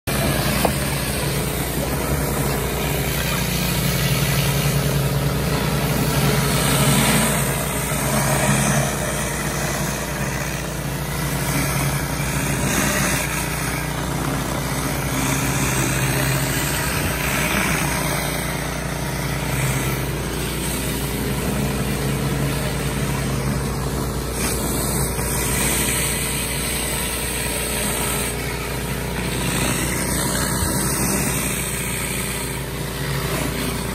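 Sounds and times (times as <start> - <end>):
pressure washer running: 0.0 - 33.9
water spraying on concrete: 0.0 - 33.9.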